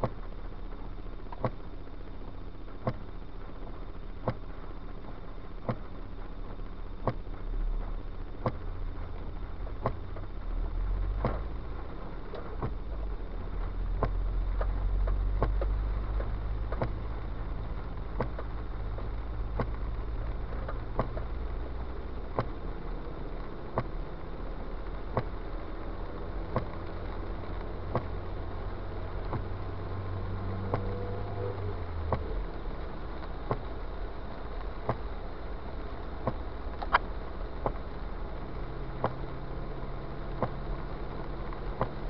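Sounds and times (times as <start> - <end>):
car engine and tyres rumbling: 0.0 - 42.0
windshield wipers sweeping: 0.0 - 42.0.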